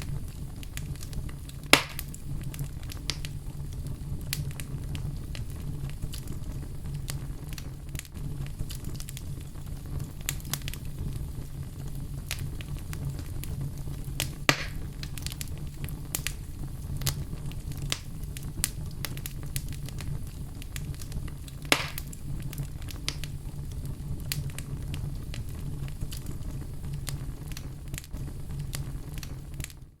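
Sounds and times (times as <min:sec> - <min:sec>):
loud fire pops: 0:00.0 - 0:30.0
wood fire crackling: 0:00.0 - 0:30.0.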